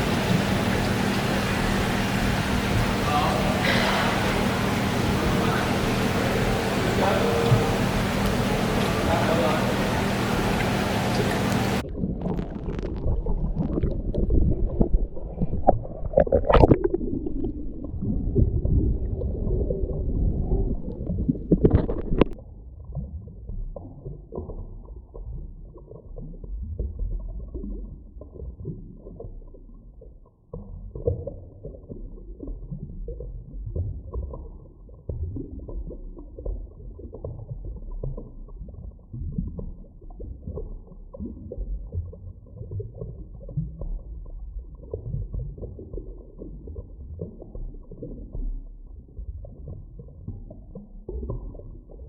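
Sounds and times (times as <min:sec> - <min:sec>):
muffled underwater rumble: 0:00.0 - 0:52.0.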